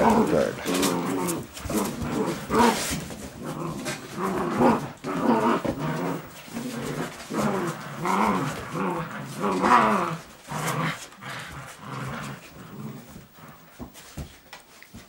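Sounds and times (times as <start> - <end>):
puppies growling in play: 0.0 - 15.0.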